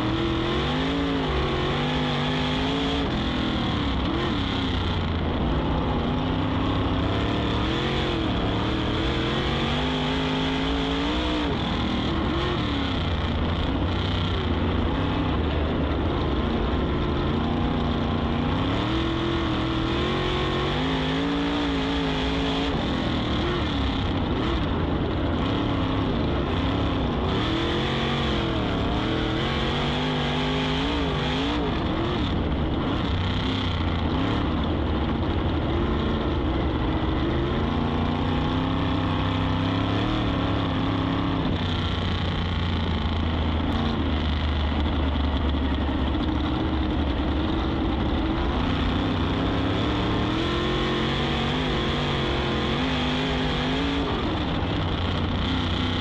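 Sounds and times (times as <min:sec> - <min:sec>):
race car engine revving: 0:00.0 - 0:56.0
steady rush of noise: 0:00.0 - 0:56.0.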